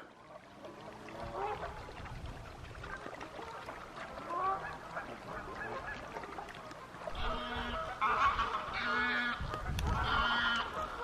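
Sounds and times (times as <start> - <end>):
geese honking: 0.0 - 2.0, 2.8 - 11.0.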